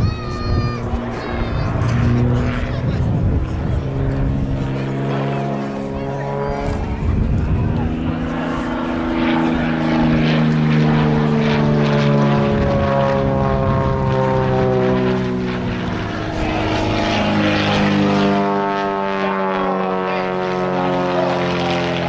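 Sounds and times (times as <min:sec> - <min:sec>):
propeller plane engine: 0:00.0 - 0:22.0.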